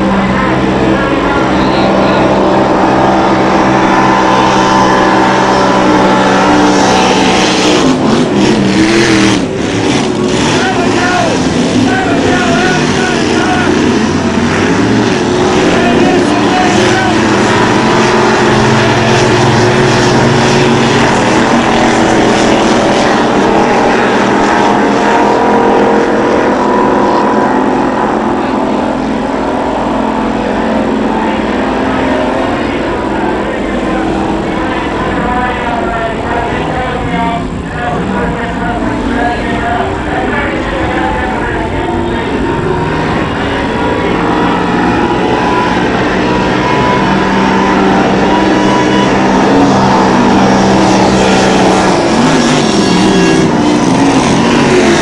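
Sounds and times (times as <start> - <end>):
race boat engines roaring: 0.0 - 55.0.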